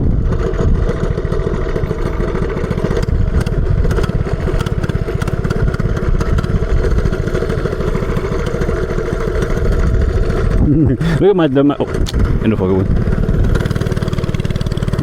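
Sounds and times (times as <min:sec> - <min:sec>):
minibike engine running: 0:00.0 - 0:15.0.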